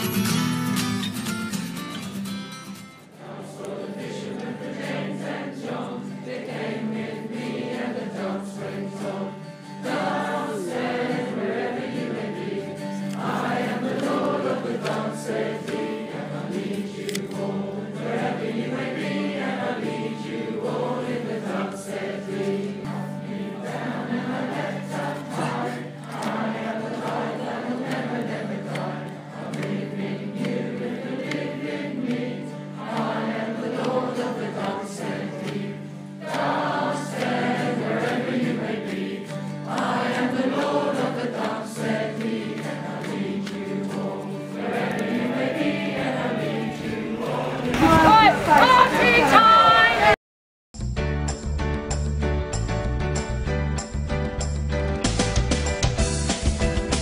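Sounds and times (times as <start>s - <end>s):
person singing: 3.2s - 50.2s.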